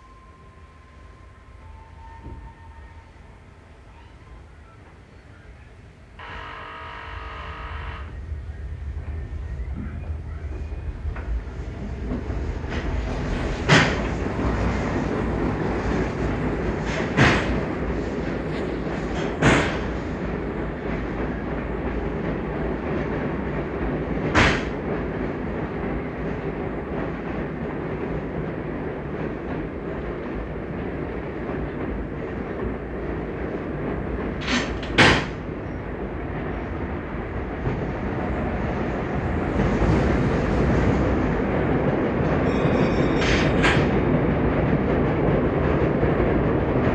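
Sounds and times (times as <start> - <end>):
steam train rumbling: 0.0 - 46.9.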